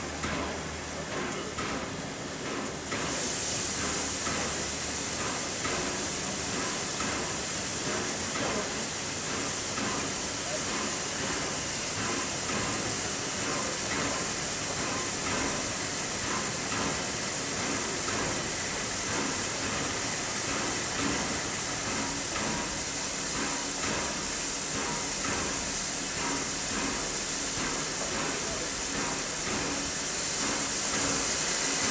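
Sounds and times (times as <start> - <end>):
steam hissing from locomotive: 0.0 - 31.9.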